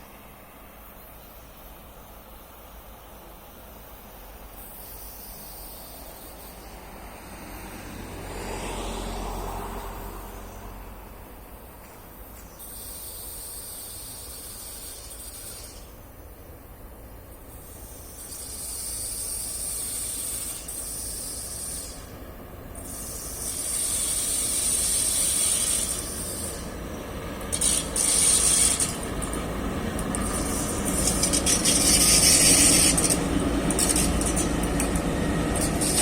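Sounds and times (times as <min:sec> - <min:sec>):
electric train approaching: 0:00.0 - 0:36.0
high hiss: 0:00.0 - 0:36.0.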